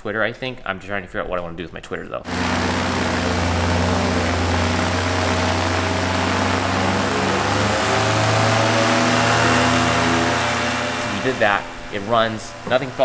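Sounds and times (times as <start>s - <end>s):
two-stroke engine and propeller: 2.3s - 13.0s.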